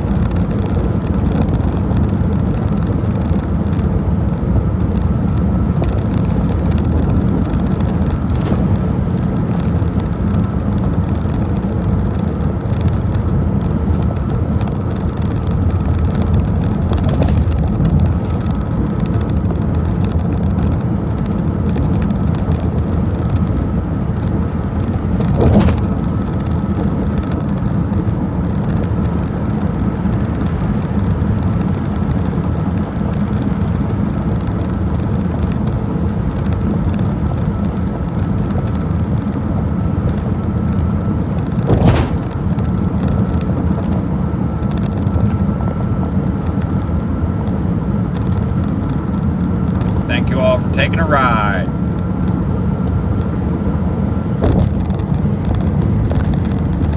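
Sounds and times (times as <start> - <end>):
car road and wind noise: 0.0 - 56.9.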